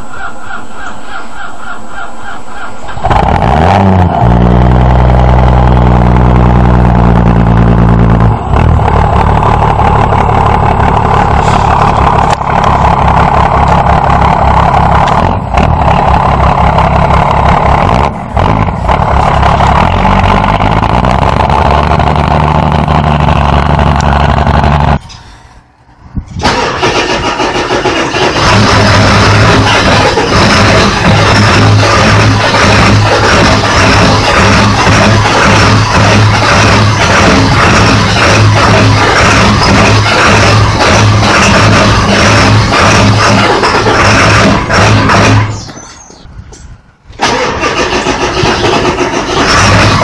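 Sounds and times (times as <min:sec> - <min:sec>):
different engine sound: 0:00.0 - 0:50.0
large engine running loud: 0:00.0 - 0:50.0.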